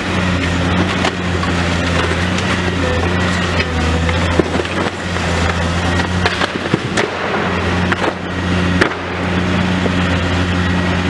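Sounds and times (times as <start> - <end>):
debris cracking and knocking: 0.0 - 10.0
excavator diesel engine under load: 0.0 - 11.0.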